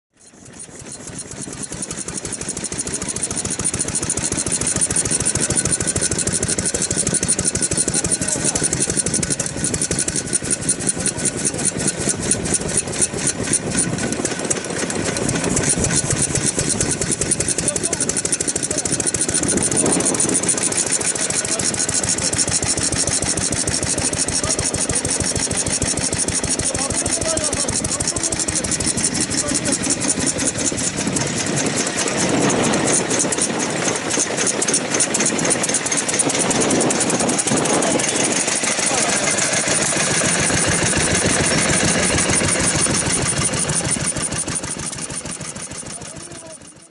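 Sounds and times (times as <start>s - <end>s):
stationary engine idling: 0.1s - 46.9s.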